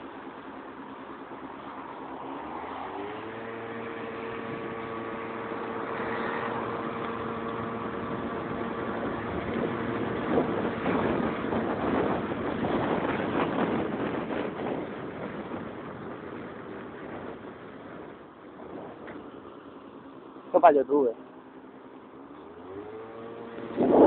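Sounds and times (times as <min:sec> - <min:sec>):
scooter engine: 0:00.0 - 0:20.5, 0:21.2 - 0:24.0
wind and road noise: 0:00.0 - 0:24.0.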